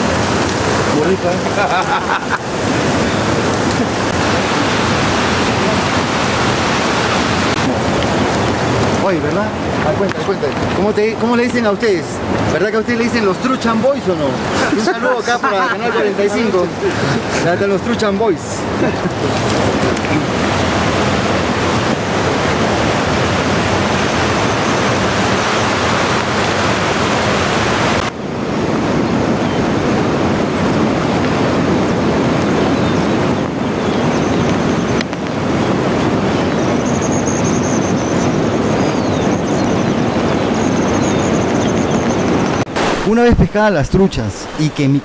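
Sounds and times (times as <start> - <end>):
river water rushing over stones: 0.0 - 39.2, 39.9 - 45.0.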